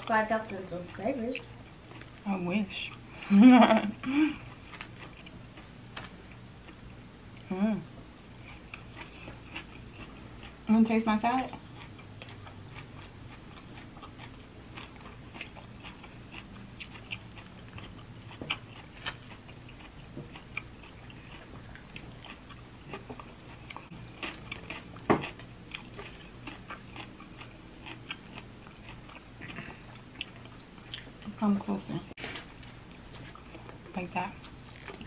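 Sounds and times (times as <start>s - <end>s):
chewing and crunching salad: 0.0s - 7.6s, 8.3s - 35.0s.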